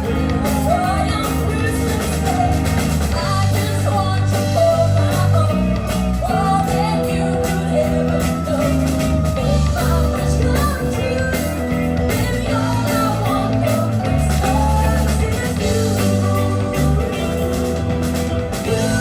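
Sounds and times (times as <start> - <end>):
rock band music: 0.0 - 19.0.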